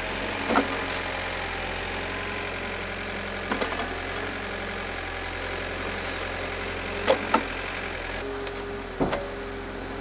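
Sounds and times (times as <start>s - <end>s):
excavator engine running: 0.0s - 10.0s
hydraulic whine: 0.0s - 10.0s.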